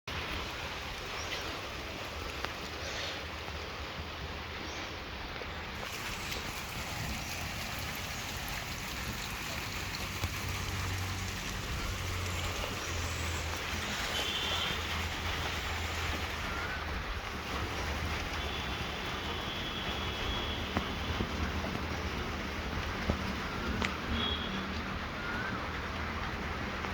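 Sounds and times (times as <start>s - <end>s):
rain falling: 0.1s - 26.9s.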